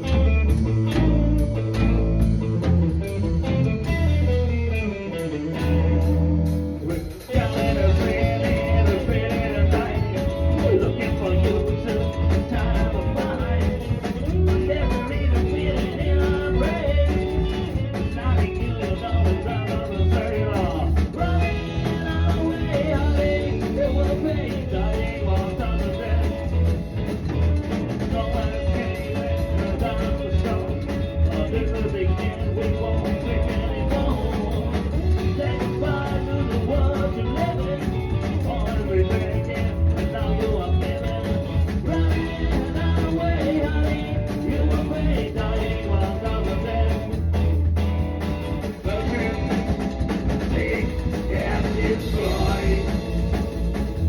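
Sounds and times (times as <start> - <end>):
band playing fast beat: 0.0 - 54.0
upright double bass: 0.0 - 54.0.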